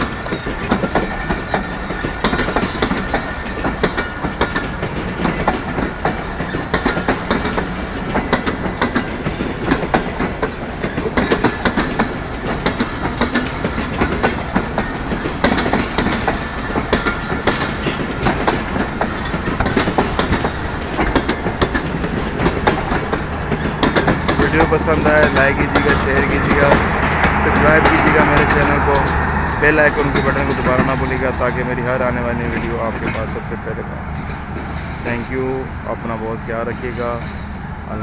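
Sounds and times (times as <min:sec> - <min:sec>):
train wheels rumbling on track: 0:00.0 - 0:38.0
wheels clicking over rail joints: 0:00.0 - 0:38.0.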